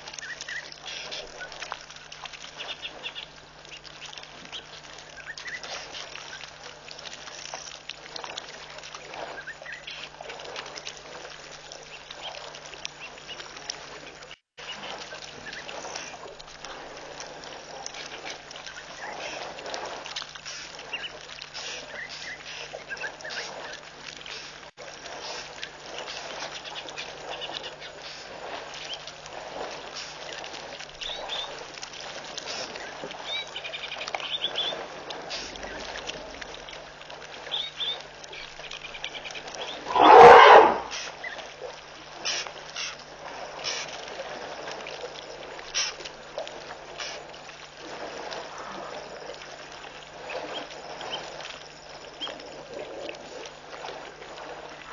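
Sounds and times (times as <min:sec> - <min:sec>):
faint steady hum: 0:00.0 - 0:54.9
water sloshing and splashing: 0:00.0 - 0:54.9.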